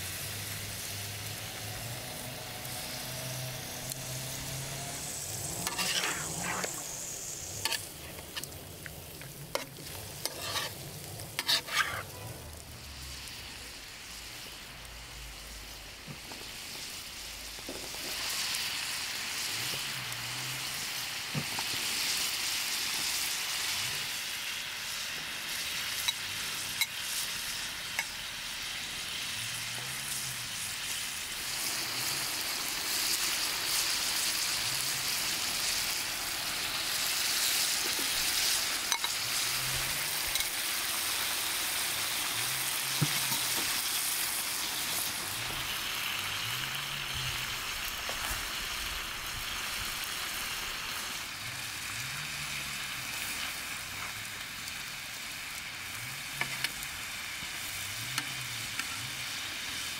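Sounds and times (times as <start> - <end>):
food frying in oil: 0.0 - 59.9.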